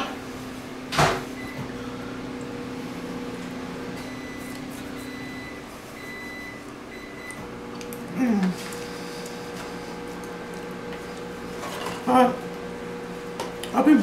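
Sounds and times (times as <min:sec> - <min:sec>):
electrical appliance hum: 0:00.0 - 0:14.0.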